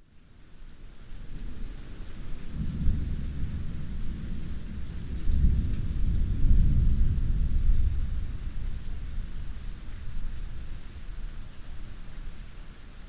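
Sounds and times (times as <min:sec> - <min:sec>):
heavy rain hissing: 0:00.2 - 0:13.0
thunder rumbling: 0:01.4 - 0:12.0.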